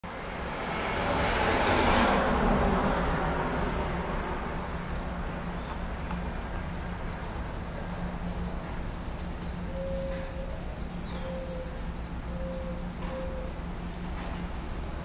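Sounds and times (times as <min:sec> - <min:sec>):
nestlings begging calls: 0:00.5 - 0:15.0.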